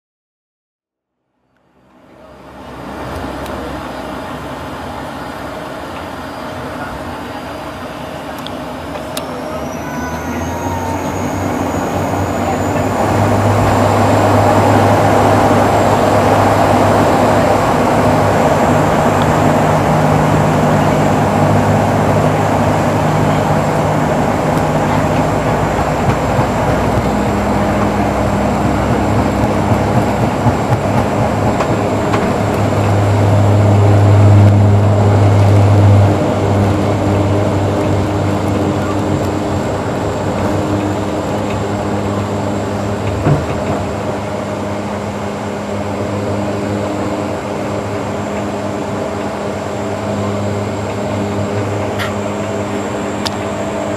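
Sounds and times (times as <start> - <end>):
jet engine whine: 1.2 - 53.9
airliner engine noise in cabin: 1.4 - 53.9.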